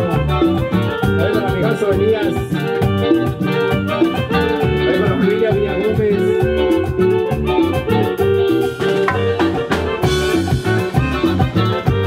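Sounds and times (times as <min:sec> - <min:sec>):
latin background music: 0:00.0 - 0:12.0.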